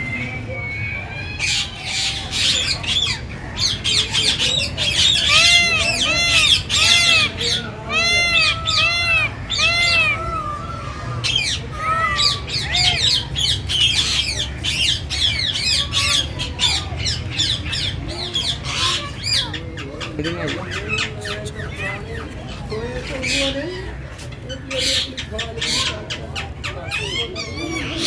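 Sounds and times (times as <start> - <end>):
rising and falling bird calls: 0.0 - 22.7
birds squawking and chirping: 0.0 - 28.0.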